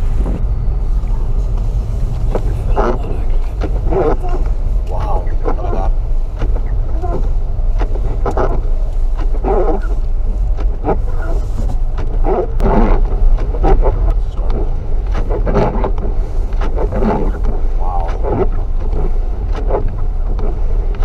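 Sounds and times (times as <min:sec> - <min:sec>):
gusting wind buffeting microphone: 0:00.0 - 0:21.0.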